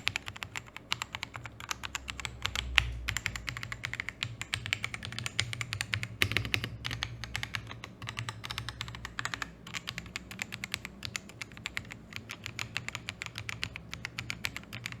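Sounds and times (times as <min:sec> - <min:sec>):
mechanical keyboard typing: 0:00.0 - 0:15.0.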